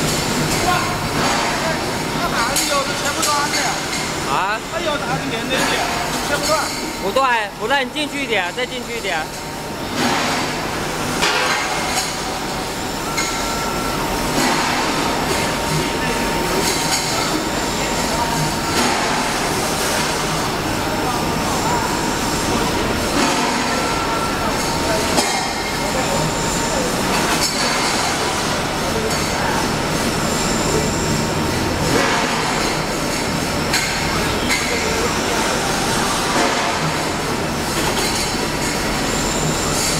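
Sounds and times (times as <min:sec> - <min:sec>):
high machine whine: 0:00.0 - 0:39.9.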